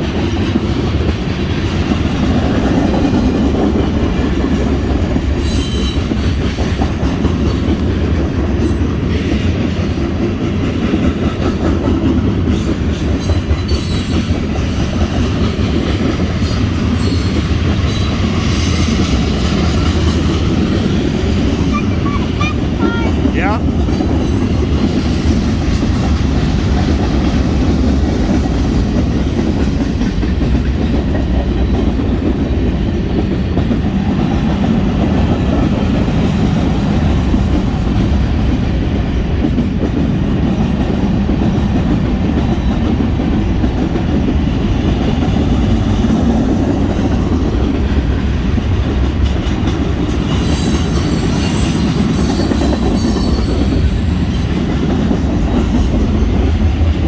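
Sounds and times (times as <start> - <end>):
freight train rumbling: 0.0 - 57.0.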